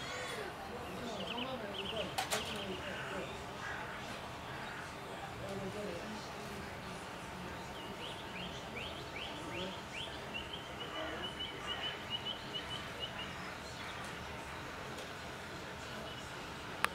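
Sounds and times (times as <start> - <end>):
outdoor background noise: 0.0 - 16.9
songbird singing: 0.0 - 16.9.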